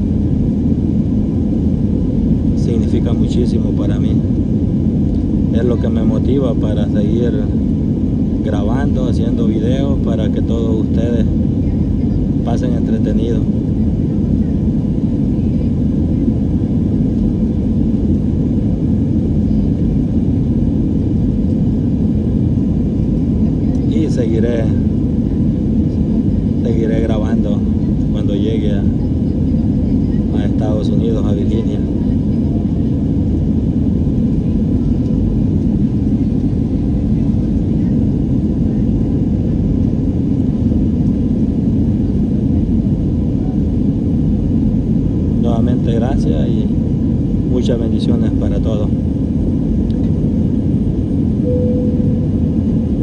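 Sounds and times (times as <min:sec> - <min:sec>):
jet airliner cabin rumble: 0:00.0 - 0:53.0.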